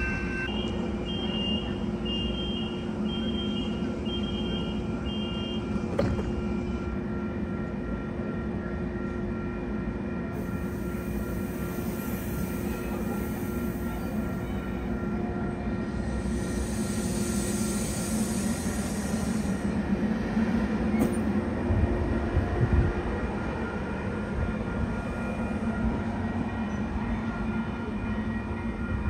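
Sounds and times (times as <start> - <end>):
train engine running: 0.0 - 29.0.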